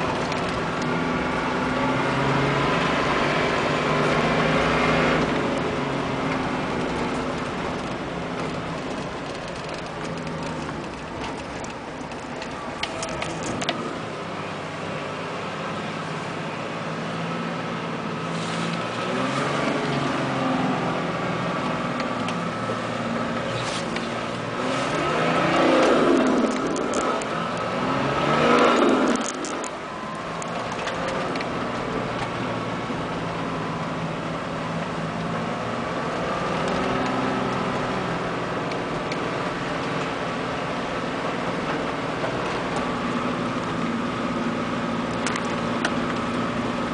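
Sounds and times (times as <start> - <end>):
diesel engine running and revving: 0.0 - 46.9.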